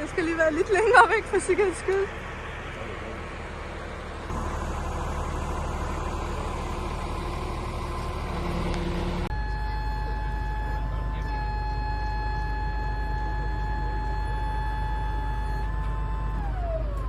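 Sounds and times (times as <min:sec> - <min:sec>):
crane diesel engine under load: 0:00.0 - 0:17.0
steady whine: 0:00.0 - 0:17.0.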